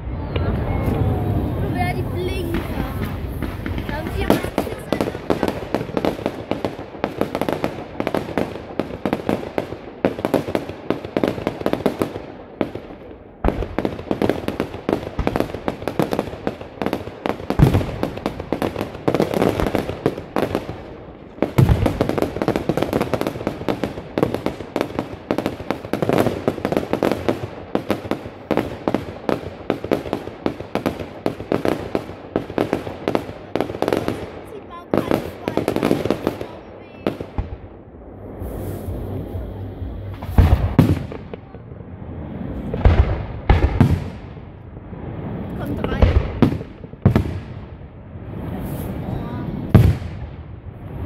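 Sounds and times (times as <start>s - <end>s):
deep firework booms: 0.0s - 51.0s
fireworks bangs and crackles: 0.0s - 51.0s.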